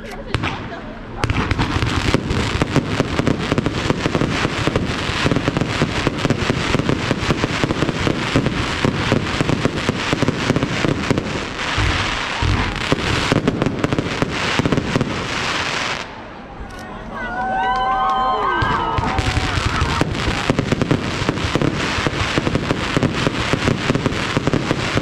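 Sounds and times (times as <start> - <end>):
fireworks bangs and crackles: 0.0 - 16.3, 18.5 - 25.0.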